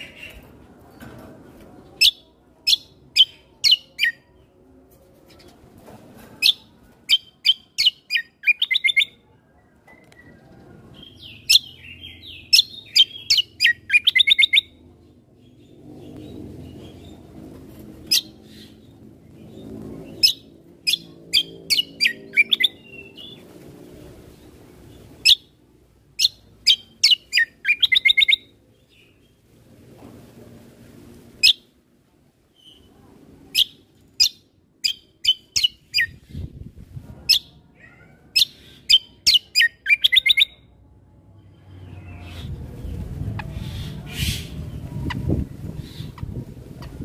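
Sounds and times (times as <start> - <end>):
songbird chirping: 0.0 - 29.6, 32.4 - 36.5, 37.3 - 47.0.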